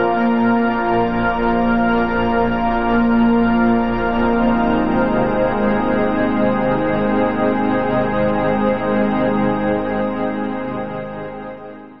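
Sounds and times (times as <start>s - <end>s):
background music with sustained chords: 0.0s - 11.9s.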